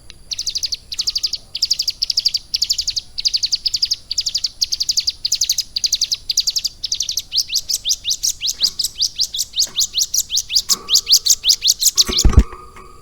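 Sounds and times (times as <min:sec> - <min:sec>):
bird singing high rising chirps: 0:00.3 - 0:12.7.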